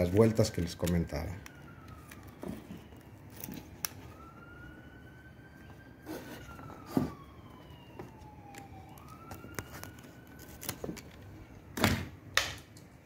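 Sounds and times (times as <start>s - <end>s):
siren wailing: 0.0s - 12.3s.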